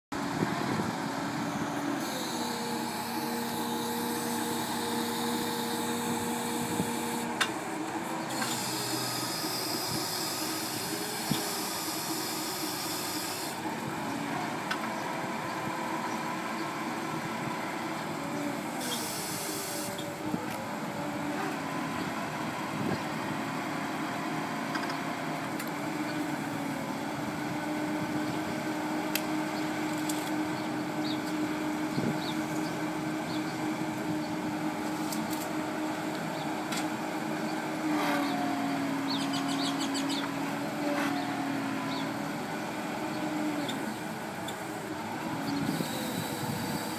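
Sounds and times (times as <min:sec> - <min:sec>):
forklift engine running: 0:00.1 - 0:46.9.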